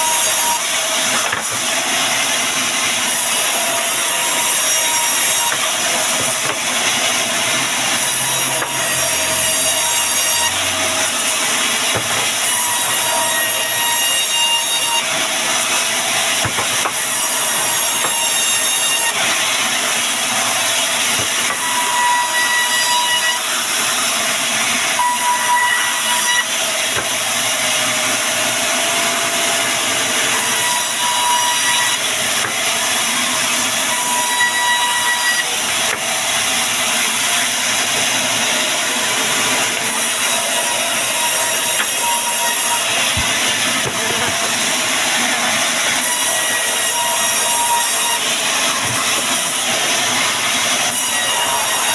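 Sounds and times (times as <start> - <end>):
bandsaw cutting a log: 0.0 - 51.9.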